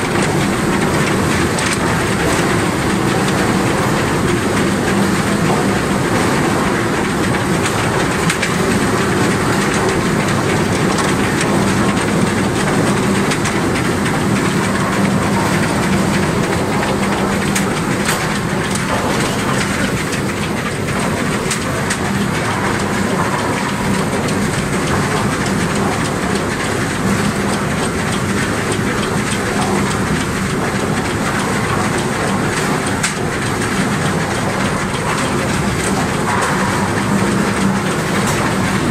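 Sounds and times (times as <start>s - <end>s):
logs clattering against rollers: 0.0s - 38.9s.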